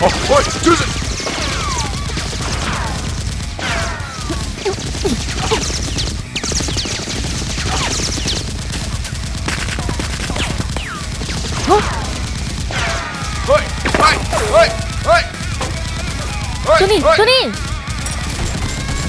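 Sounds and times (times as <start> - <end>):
rapid gunfire: 0.0 - 19.0.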